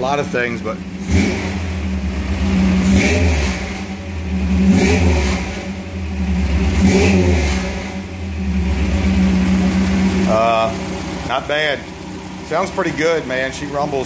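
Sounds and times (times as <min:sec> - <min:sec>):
engine revving and idling: 0:00.0 - 0:14.0.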